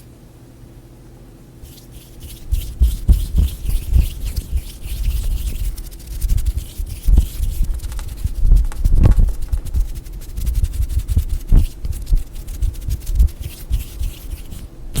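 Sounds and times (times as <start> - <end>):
fingers tapping and scratching: 1.6 - 15.0.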